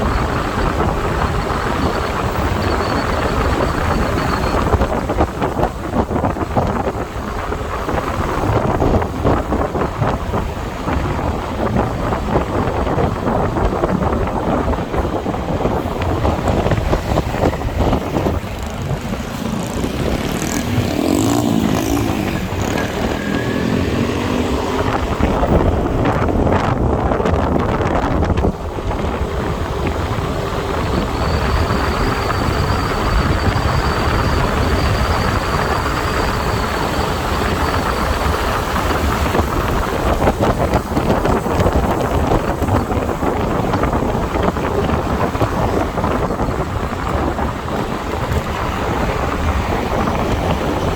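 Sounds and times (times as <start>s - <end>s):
motorbike engine: 0.0s - 50.9s
wind rushing over microphone: 0.0s - 50.9s.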